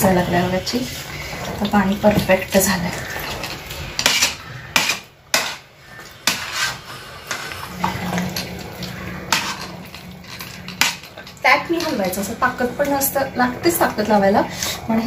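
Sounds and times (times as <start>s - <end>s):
spoon scraping and clacking on pot: 0.8s - 13.0s.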